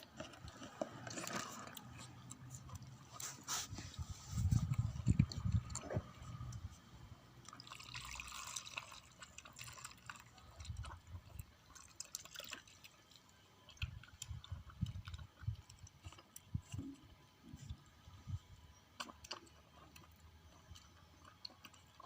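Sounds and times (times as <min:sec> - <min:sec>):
kitten lapping milk: 0:00.0 - 0:22.0.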